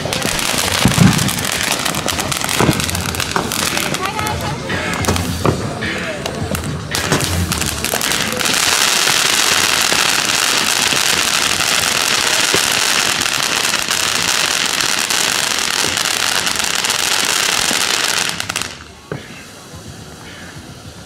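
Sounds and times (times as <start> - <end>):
firework fountain hissing and crackling: 0.0 - 21.0.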